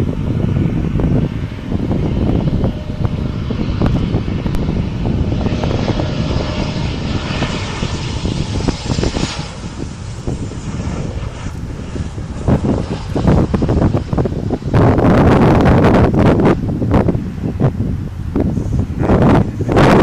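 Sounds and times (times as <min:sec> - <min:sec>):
jet airliner engines passing: 0:00.0 - 0:20.0
wind buffeting microphone: 0:00.0 - 0:20.0.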